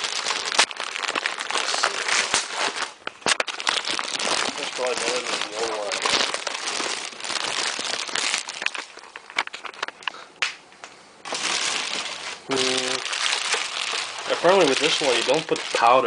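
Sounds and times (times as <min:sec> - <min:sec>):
packaging crinkling and rustling: 0:00.0 - 0:10.2, 0:11.2 - 0:16.0.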